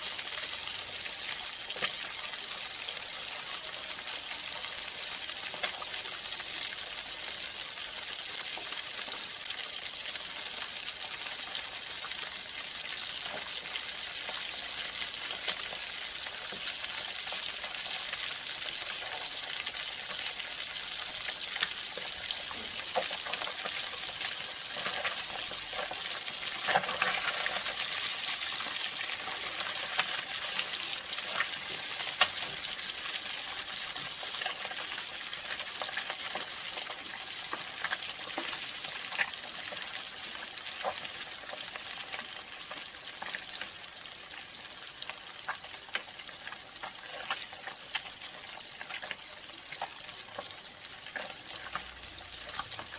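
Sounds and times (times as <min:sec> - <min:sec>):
fish sizzling in hot oil: 0:00.0 - 0:52.9.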